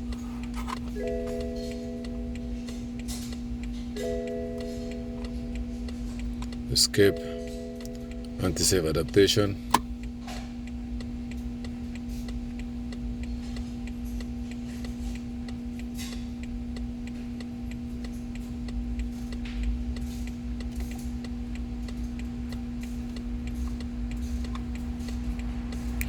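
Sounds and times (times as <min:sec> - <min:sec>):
electrical hum: 0:00.0 - 0:26.0
light regular ticking: 0:00.0 - 0:26.0.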